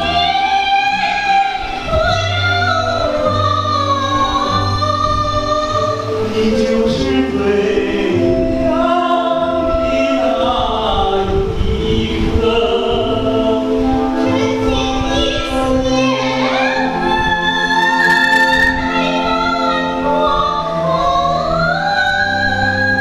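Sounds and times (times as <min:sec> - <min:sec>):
man and woman singing duet: 0:00.0 - 0:23.0
musical accompaniment: 0:00.0 - 0:23.0.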